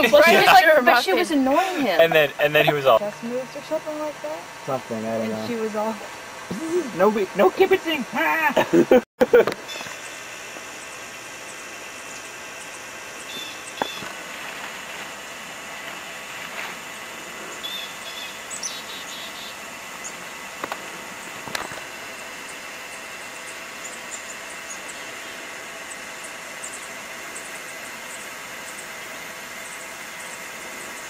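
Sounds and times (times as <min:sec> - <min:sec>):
outdoor ambience hiss: 0:00.0 - 0:31.0.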